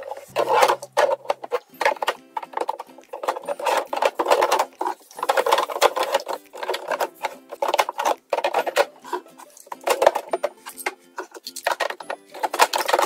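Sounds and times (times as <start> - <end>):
plastic bottles clattering: 0.0 - 13.0.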